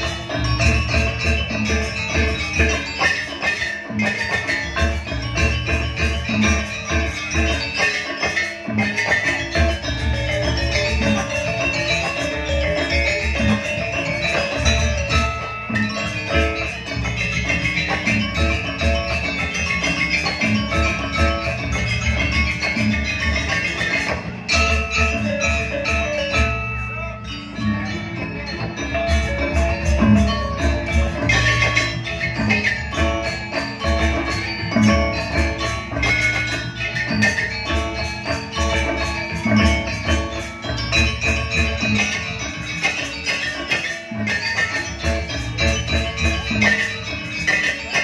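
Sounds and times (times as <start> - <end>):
bright metallophone notes: 0.0 - 48.0
gamelan ensemble playing: 0.0 - 48.0.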